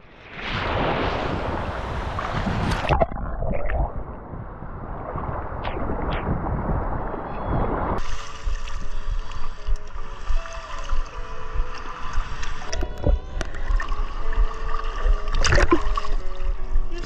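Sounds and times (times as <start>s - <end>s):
surf washing: 0.0s - 3.0s, 3.9s - 17.0s
wind buffeting microphone: 0.6s - 17.0s.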